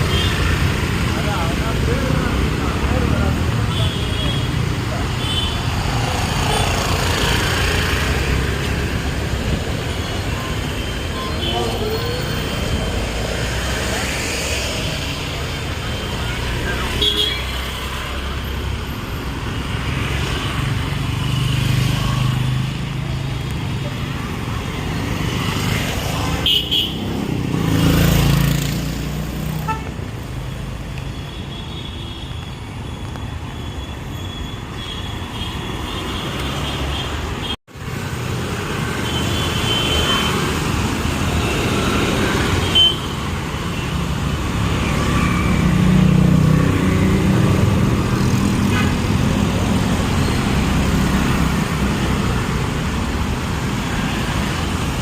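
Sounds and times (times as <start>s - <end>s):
vehicles passing close: 0.0s - 31.5s, 32.5s - 55.0s
rumble of traffic engines: 0.0s - 55.0s.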